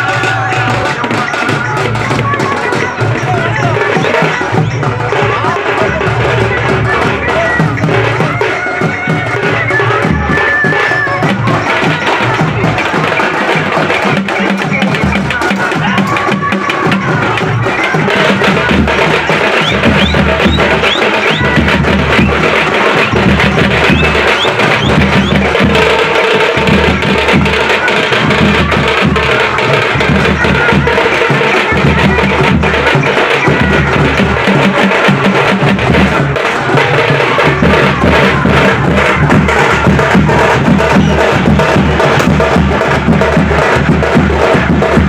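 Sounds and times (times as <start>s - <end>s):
loud drum-driven music: 0.0s - 45.0s
sharp percussion strikes: 0.0s - 45.0s.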